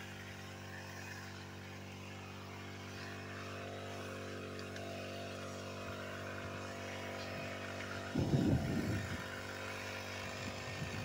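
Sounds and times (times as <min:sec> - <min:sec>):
crop sprayer engine running: 0:00.0 - 0:11.0.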